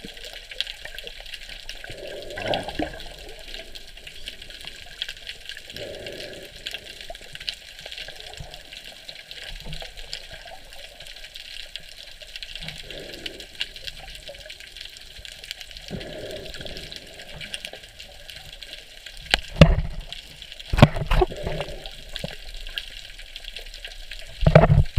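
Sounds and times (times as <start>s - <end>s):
underwater water hiss: 0.0s - 11.2s, 12.0s - 19.3s, 21.0s - 24.3s.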